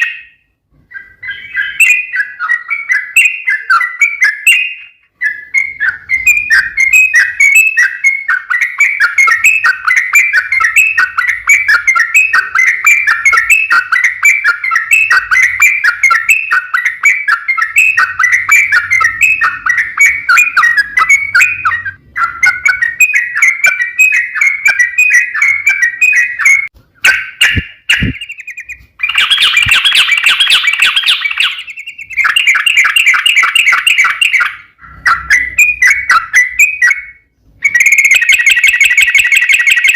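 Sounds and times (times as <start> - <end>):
bulbul singing rapid chirping notes: 1.0 - 39.9.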